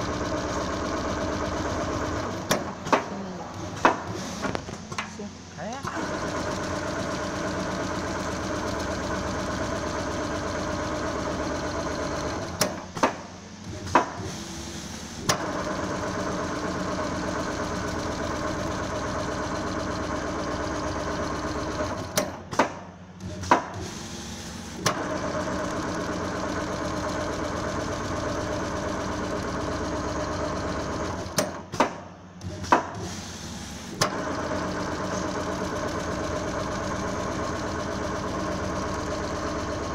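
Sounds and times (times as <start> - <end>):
sewing machine running: 0.0 - 4.5, 5.8 - 12.8, 13.7 - 22.2, 23.2 - 31.6, 32.5 - 39.9.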